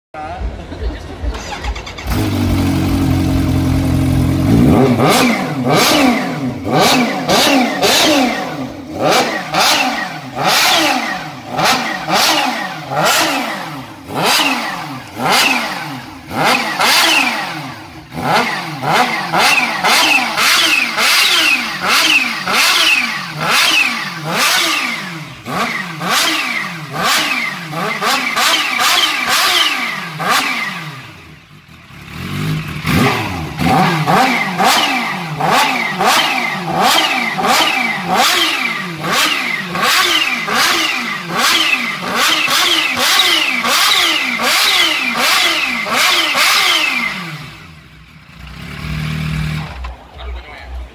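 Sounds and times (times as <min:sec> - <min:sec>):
motorcycle engine revving: 0:00.2 - 0:50.9.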